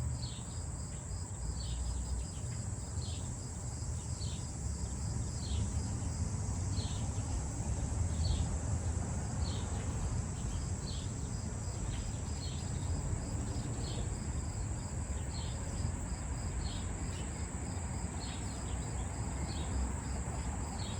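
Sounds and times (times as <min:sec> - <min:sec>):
crickets trilling: 0:00.0 - 0:20.9.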